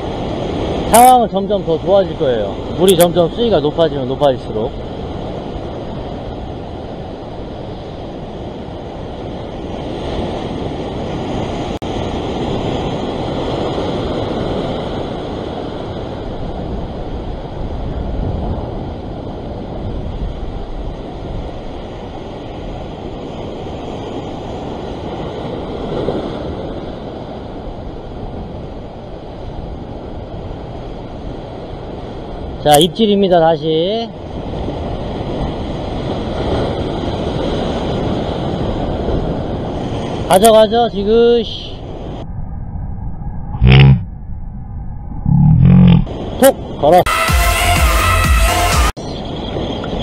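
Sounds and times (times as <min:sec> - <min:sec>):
wind buffeting microphone: 0:00.0 - 0:32.7, 0:34.1 - 0:43.7
ocean surf breaking on rocks: 0:00.0 - 0:42.0.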